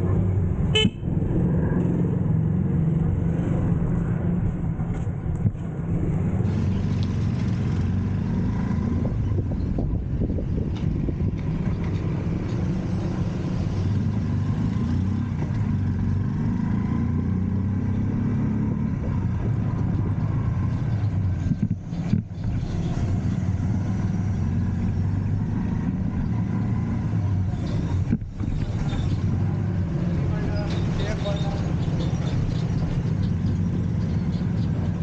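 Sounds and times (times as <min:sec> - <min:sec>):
road noise: 0:00.0 - 0:35.0.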